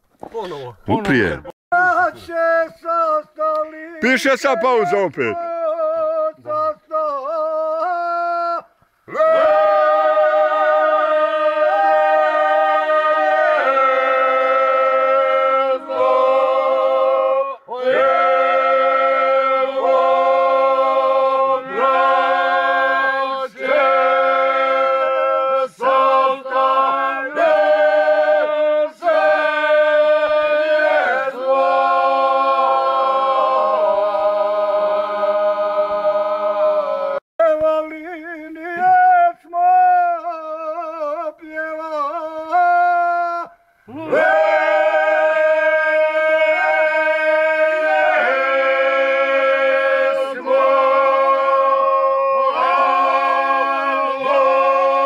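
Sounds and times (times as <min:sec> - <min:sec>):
men singing unaccompanied: 0:01.8 - 0:55.0.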